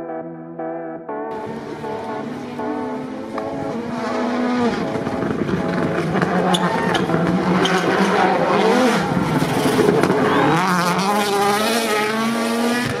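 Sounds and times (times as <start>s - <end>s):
racing car engine revving: 1.3s - 13.0s.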